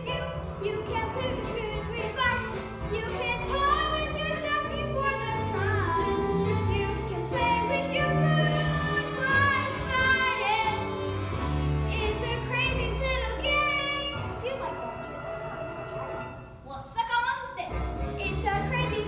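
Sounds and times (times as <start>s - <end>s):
instrumental accompaniment: 0.0s - 16.7s, 17.6s - 19.0s.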